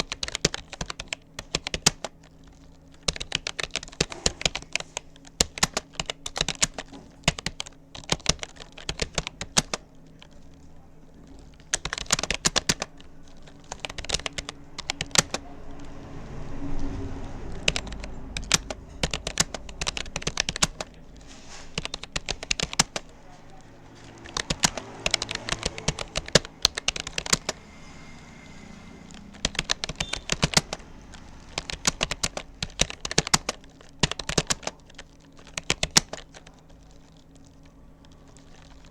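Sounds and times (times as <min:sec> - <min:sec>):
computer keyboard key clicks: 0:00.0 - 0:10.5, 0:11.2 - 0:15.4, 0:17.5 - 0:21.0, 0:21.8 - 0:23.1, 0:24.0 - 0:27.6, 0:29.1 - 0:38.9
low background rumble: 0:00.0 - 0:38.9.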